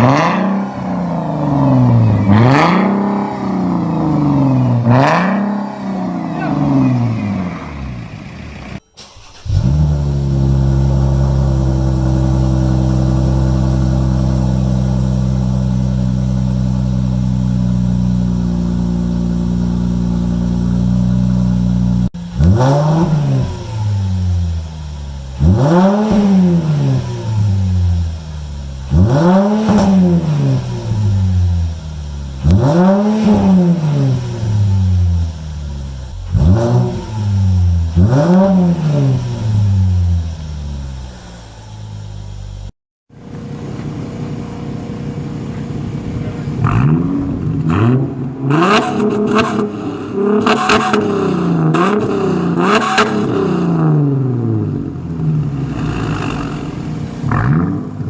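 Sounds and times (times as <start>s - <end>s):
engine revving: 0.0s - 42.8s, 46.3s - 58.0s.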